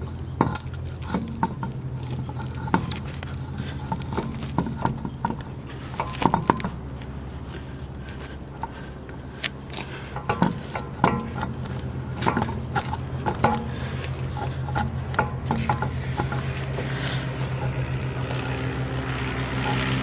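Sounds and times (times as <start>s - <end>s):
steady low hum: 0.0s - 20.0s
metallic clinks and scrapes: 0.4s - 20.0s.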